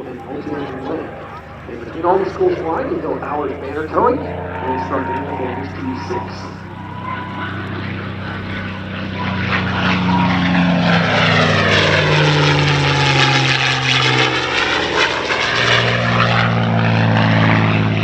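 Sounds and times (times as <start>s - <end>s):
propeller aircraft engine passing: 0.0s - 18.0s.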